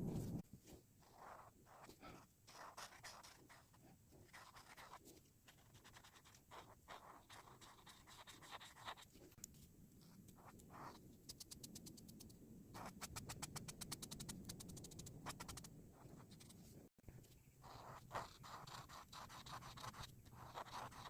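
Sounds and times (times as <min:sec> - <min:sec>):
coloring tool scratching paper: 0:01.0 - 0:09.3, 0:10.0 - 0:16.7, 0:17.6 - 0:21.0.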